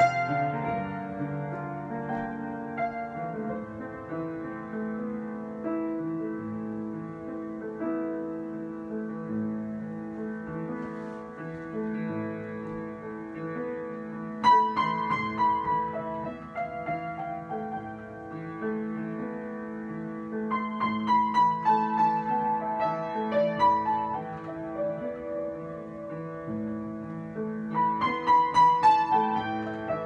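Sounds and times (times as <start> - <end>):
solo piano: 0.0 - 30.0.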